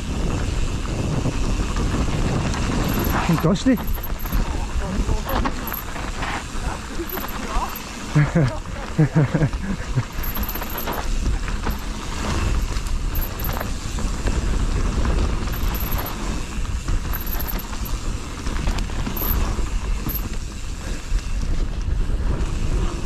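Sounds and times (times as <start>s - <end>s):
wind rushing over microphone: 0.0s - 23.0s
tyres rumbling on dirt: 0.6s - 21.0s.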